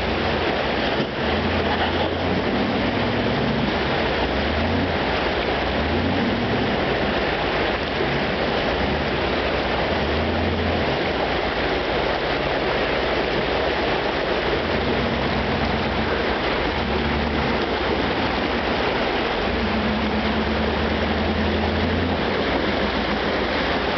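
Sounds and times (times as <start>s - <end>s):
creek water rushing over boulders: 0.0s - 23.9s
engine running low: 0.0s - 23.9s.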